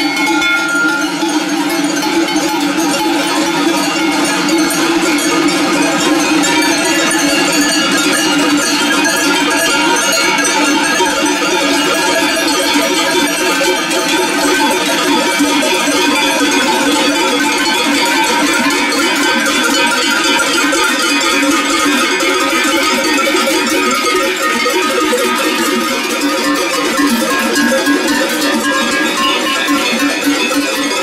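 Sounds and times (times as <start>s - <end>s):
cowbells jangling: 0.0s - 31.0s.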